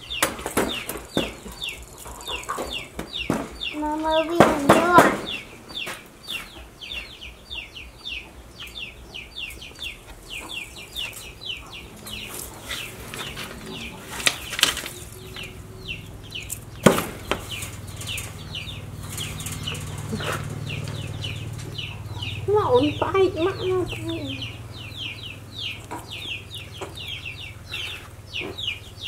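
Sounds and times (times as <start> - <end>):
small bird chirping: 0.0 - 29.0.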